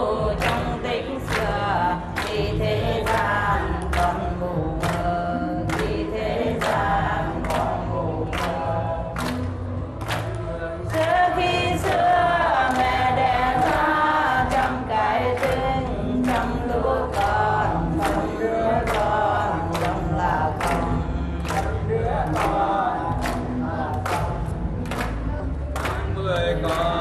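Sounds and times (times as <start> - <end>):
crowd clapping in unison: 0.0 - 27.0
group of voices singing: 0.0 - 27.0.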